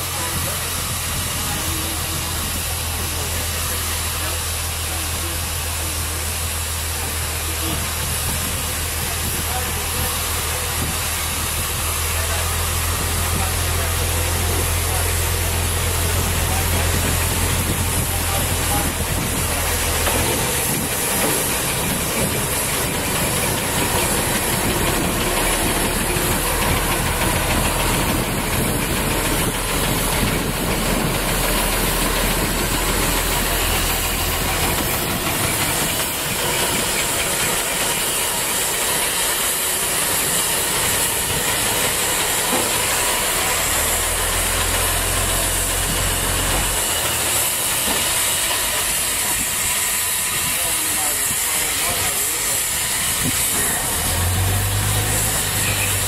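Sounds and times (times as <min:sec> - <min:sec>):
diesel locomotive engine drone: 0:00.0 - 0:56.0
loud continuous hiss: 0:00.0 - 0:56.0.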